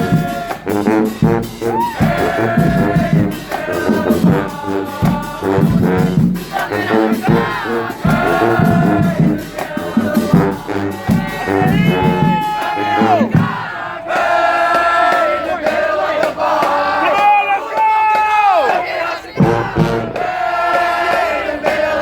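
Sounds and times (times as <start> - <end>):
marching band playing: 0.0 - 22.0.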